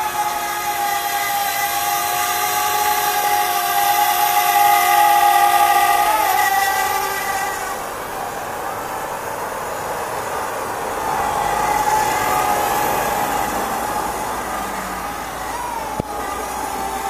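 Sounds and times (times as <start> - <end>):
drone motors whining: 0.0 - 17.0
rushing air hiss: 0.0 - 17.0.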